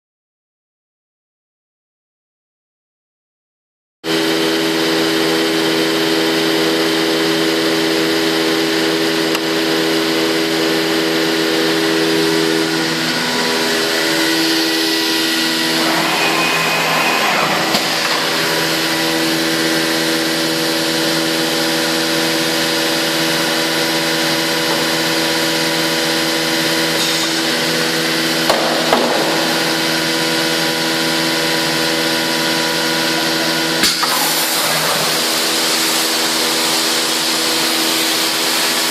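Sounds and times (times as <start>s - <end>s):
woodworking machine running: 4.1s - 38.9s.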